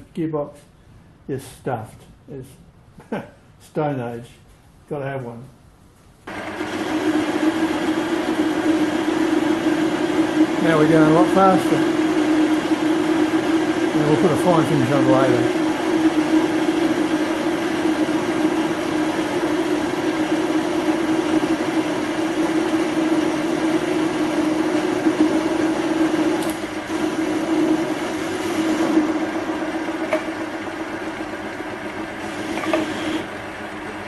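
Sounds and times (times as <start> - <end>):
lathe cutting metal: 6.3 - 33.9
metal lathe motor and gear hum: 6.3 - 34.0.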